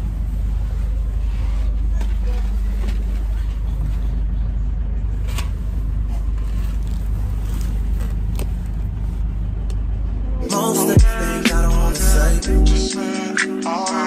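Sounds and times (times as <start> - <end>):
car engine low rumble: 0.0 - 12.8.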